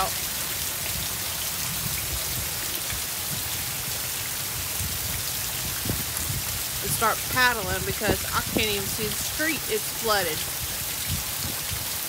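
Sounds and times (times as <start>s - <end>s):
heavy rain on lawn and puddles: 0.0s - 12.0s.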